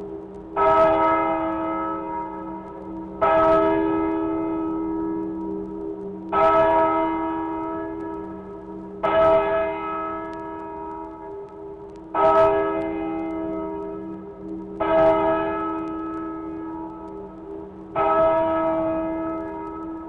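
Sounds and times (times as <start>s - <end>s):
church bell tolling: 0.6s - 20.0s.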